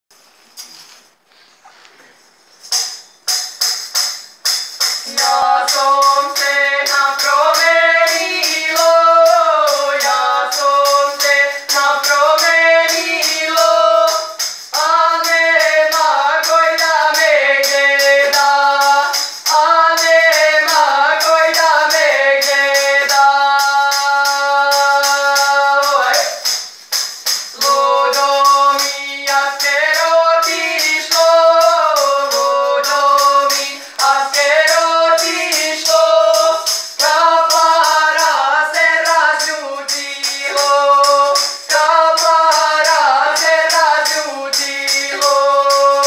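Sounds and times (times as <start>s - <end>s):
tambourine beaten and shaken: 2.5s - 46.0s
two voices singing folk song: 4.8s - 46.0s.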